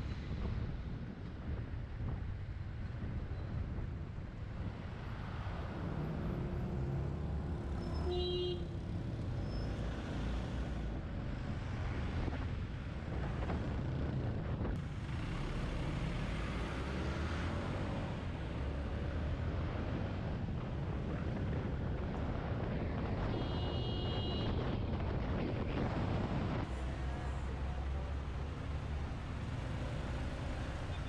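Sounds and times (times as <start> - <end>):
road and traffic noise: 0.0 - 31.0.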